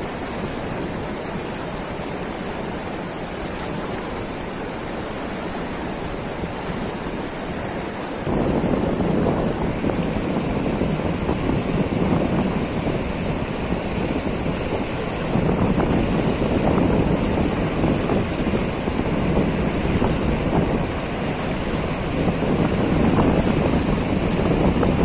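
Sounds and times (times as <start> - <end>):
river rushing over a weir: 0.0 - 25.0
wind buffeting microphone: 3.5 - 25.0.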